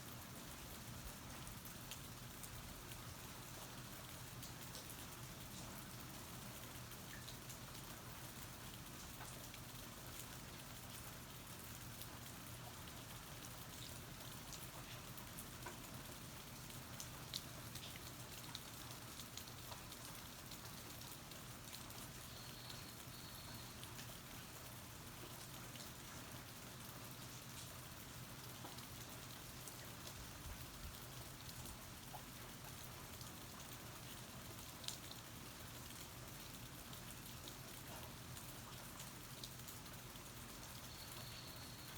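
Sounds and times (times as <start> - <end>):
rain drops ticking: 0.0 - 41.9
steady rain falling: 0.0 - 41.9.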